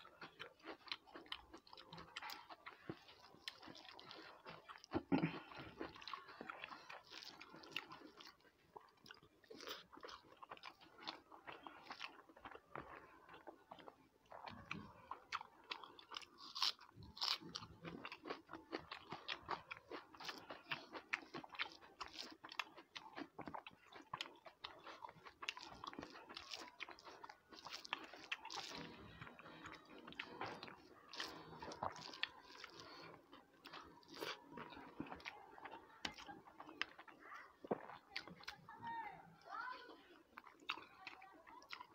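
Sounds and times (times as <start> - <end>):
person chewing and biting food: 0.0 - 38.6.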